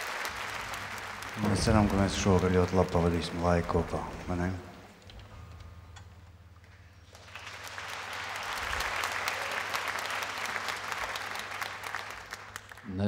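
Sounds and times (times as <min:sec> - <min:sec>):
audience applauding: 0:00.0 - 0:04.9, 0:06.7 - 0:13.0.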